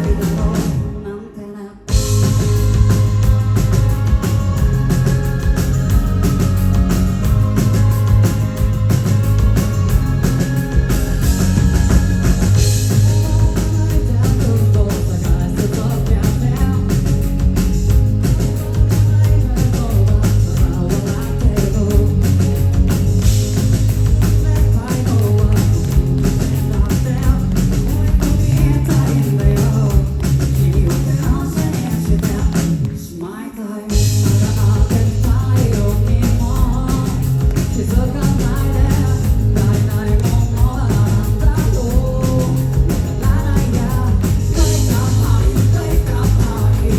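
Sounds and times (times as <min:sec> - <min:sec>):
rock band playing loudly: 0:00.0 - 0:01.0, 0:01.9 - 0:33.1, 0:33.9 - 0:46.9.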